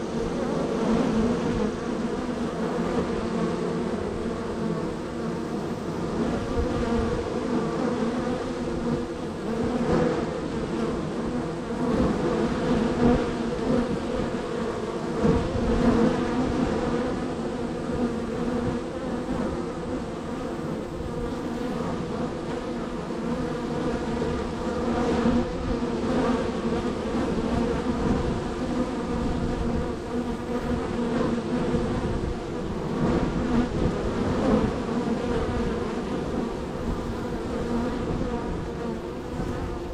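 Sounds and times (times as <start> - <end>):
honey bees buzzing: 0.0 - 39.9.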